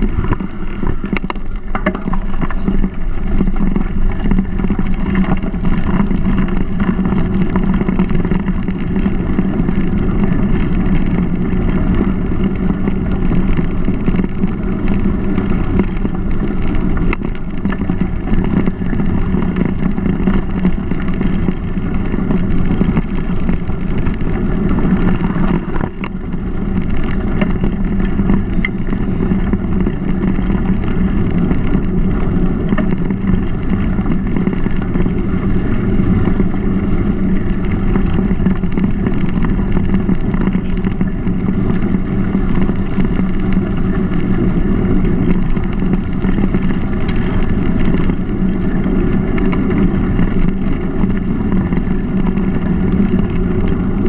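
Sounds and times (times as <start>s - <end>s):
bike tyre noise on dirt: 0.0s - 54.0s
wind rumble: 0.0s - 54.0s.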